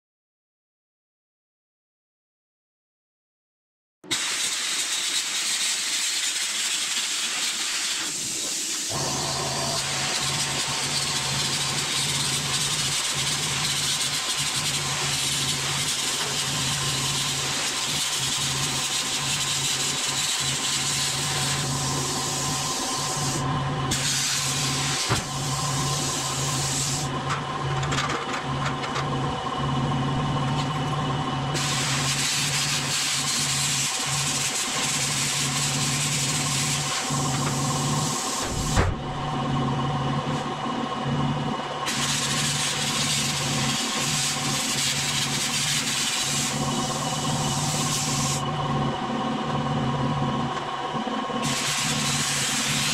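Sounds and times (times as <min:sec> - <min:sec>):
grinder motor hum: 0:08.9 - 0:52.9.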